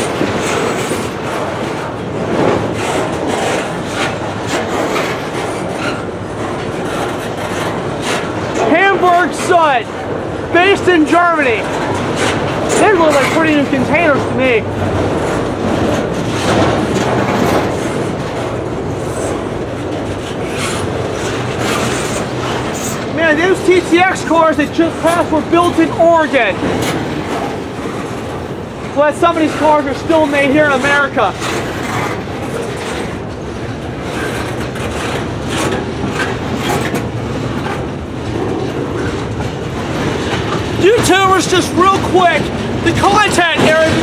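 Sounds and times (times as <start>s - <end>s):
train wheels rumbling on rails: 0.0s - 44.0s
wheels clacking on rails: 0.0s - 44.0s.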